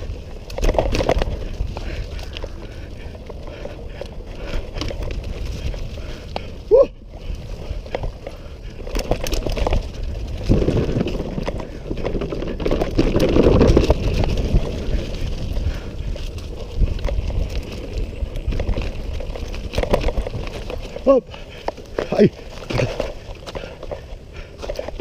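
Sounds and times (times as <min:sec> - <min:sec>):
bike rattling: 0:00.0 - 0:25.0
tyres crunching over leaves: 0:00.0 - 0:25.0
wheels on a slat bridge: 0:00.0 - 0:25.0.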